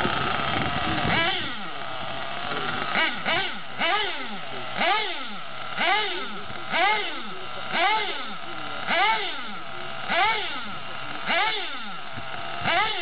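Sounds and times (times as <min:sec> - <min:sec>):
model car engine revving: 0:00.0 - 0:13.0.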